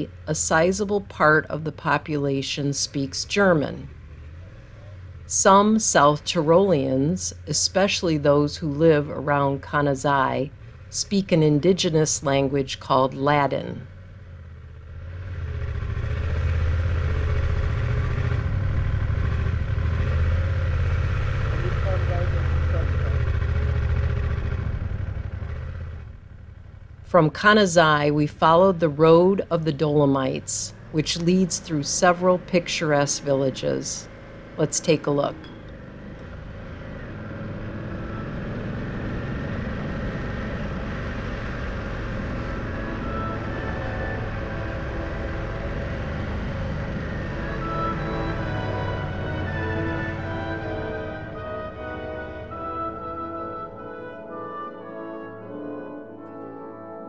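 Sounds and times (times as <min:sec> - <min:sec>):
road and wind noise: 0:00.0 - 0:54.7
motorcycle engine drone: 0:00.0 - 0:57.0.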